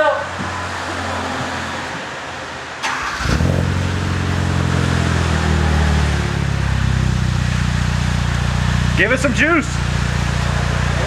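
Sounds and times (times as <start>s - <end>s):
car engine starting and idling: 0.0s - 11.0s
car starter turning: 0.4s - 10.9s.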